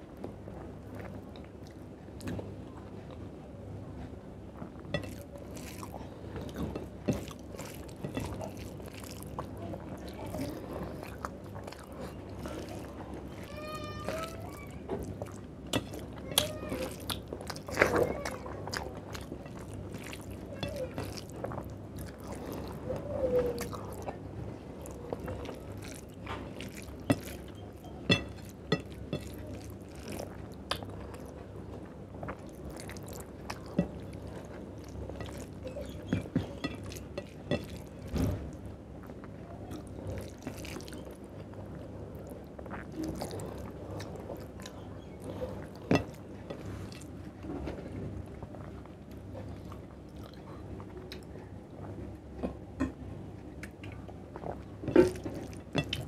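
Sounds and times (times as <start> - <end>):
man chewing food: 0.1 - 3.2, 4.6 - 52.7, 53.4 - 56.0.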